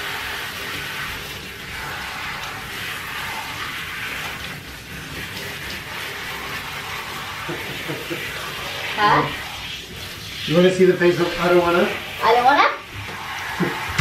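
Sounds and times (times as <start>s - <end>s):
shower water spraying: 0.0s - 14.0s.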